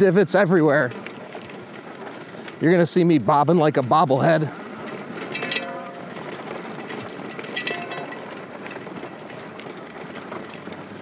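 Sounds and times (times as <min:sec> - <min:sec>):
trike frame rattling and clicking: 0:00.0 - 0:11.0.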